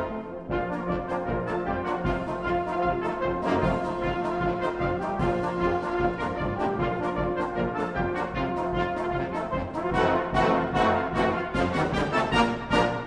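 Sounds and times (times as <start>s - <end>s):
brass music over steady beat: 0.0s - 13.0s.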